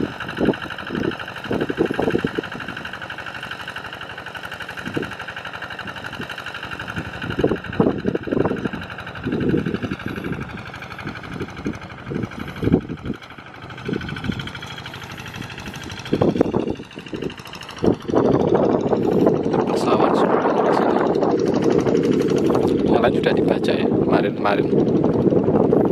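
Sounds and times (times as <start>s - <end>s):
single-cylinder diesel engine running: 0.0s - 25.9s.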